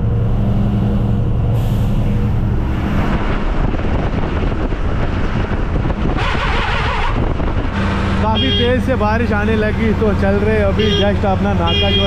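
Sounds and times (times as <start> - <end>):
diesel truck engine running: 0.0 - 12.0
wind and wet-road tyre noise: 0.0 - 12.0.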